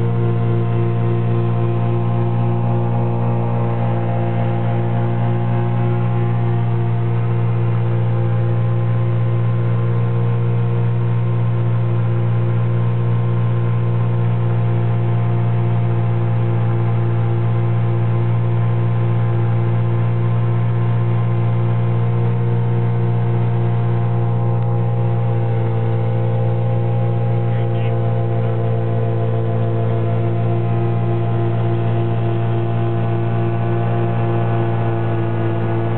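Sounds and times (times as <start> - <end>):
aircraft engine and propeller droning: 0.0 - 35.9.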